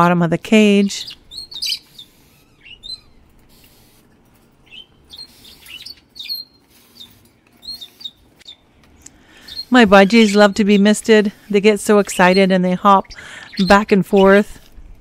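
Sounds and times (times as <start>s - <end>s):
parrots chirping: 1.0s - 14.5s.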